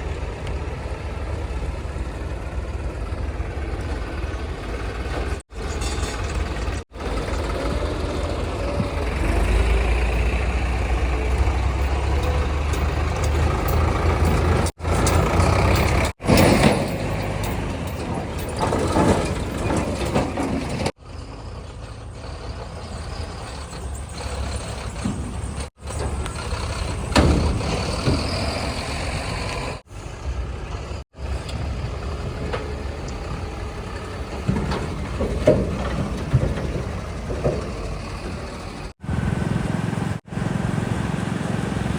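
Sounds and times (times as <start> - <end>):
diesel engines droning: 0.0 - 41.9.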